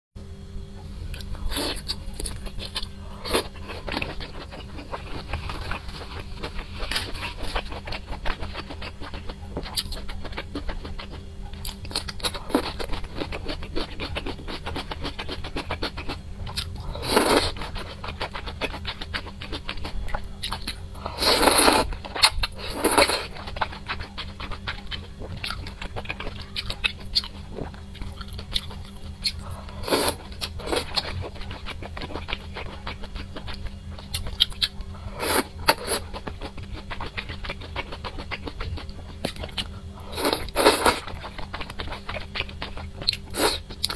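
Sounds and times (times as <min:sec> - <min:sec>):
low hum: 0:00.2 - 0:43.9
chewing and mouth clicks: 0:01.1 - 0:43.9.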